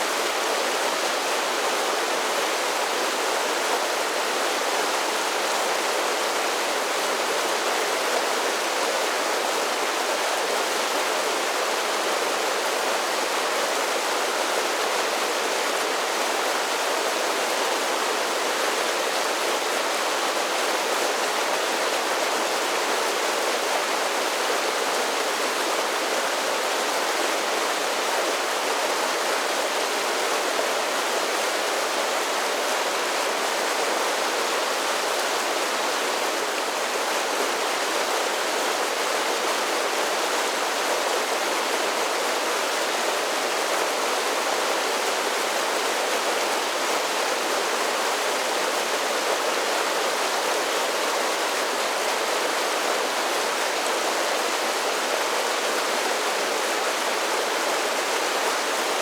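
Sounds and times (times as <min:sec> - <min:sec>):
creek splashing down waterfalls: 0:00.0 - 0:59.0.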